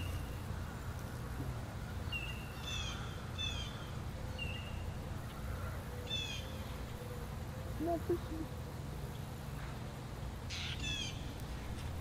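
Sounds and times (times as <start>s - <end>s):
birds calling harshly: 0.0s - 9.6s, 10.4s - 11.4s.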